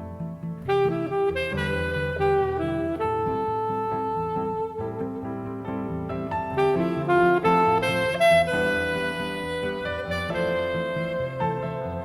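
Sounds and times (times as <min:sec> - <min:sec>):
jazz saxophone melody: 0:00.0 - 0:12.0.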